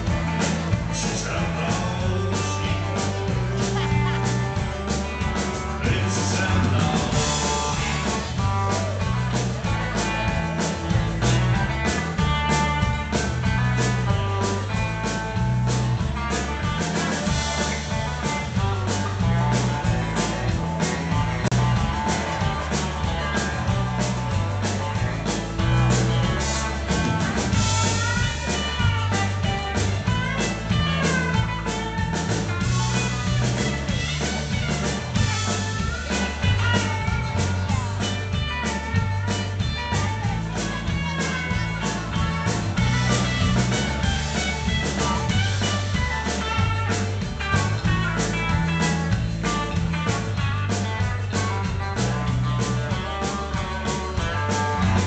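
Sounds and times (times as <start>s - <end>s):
acoustic guitar: 0.0s - 55.0s
bass guitar: 0.0s - 55.0s
drum kit beat: 0.0s - 55.0s
electric guitar lines: 0.0s - 55.0s.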